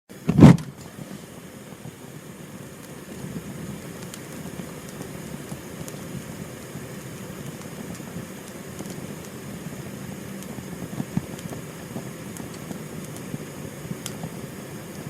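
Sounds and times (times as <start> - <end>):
gas flame rushing: 0.2 - 15.0.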